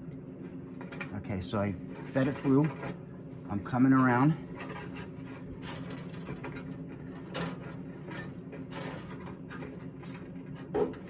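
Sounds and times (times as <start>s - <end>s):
steady low hum: 0.0s - 11.0s
rubbing and scraping handling noises: 0.4s - 11.0s.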